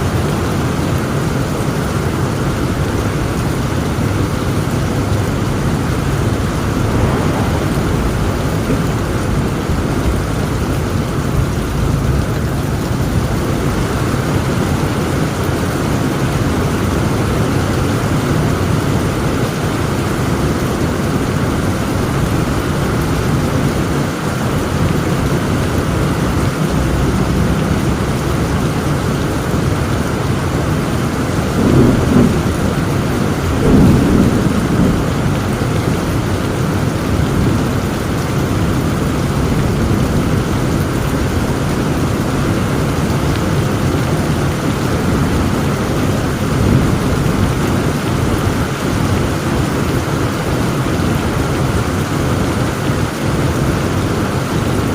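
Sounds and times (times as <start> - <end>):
thunder rumbling: 0.0 - 52.5
heavy rain falling: 0.0 - 54.9.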